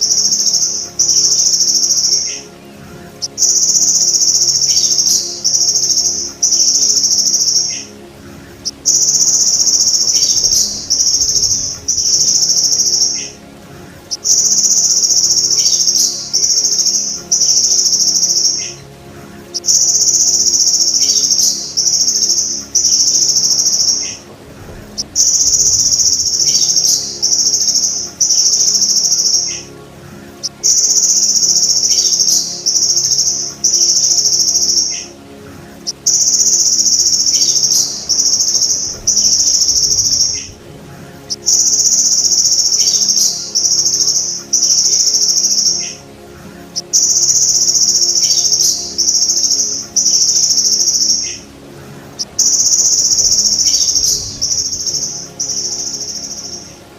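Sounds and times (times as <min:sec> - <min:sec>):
grasshopper buzzing trills: 0:00.0 - 0:56.9.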